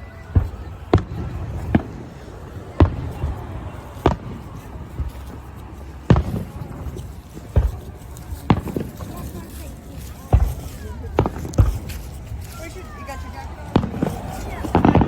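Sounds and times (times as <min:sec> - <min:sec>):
distant fireworks booming: 0:00.0 - 0:09.3, 0:10.3 - 0:12.1, 0:13.4 - 0:15.0.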